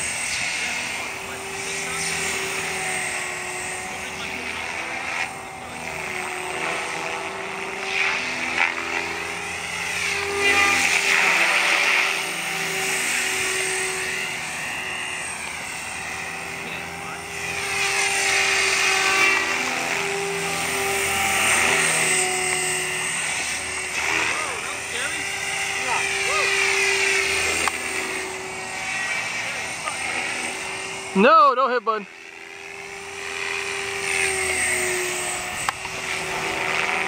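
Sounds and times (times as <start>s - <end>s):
rc helicopter motor whine: 0.0s - 37.0s.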